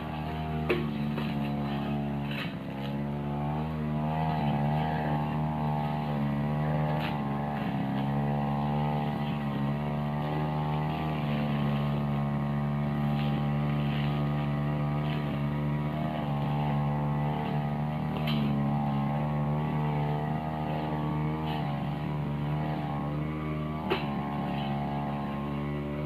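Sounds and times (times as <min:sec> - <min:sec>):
brush cutter engine running: 0:00.0 - 0:26.0.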